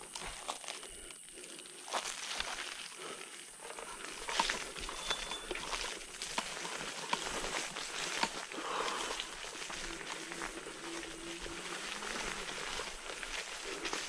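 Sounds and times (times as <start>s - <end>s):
leaf litter crackling and rustling: 0.0s - 14.0s.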